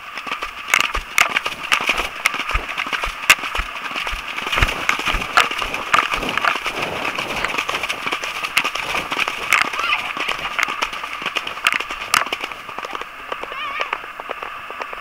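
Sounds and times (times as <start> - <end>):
hooves galloping: 0.0 - 15.0
water splashing: 0.0 - 15.0.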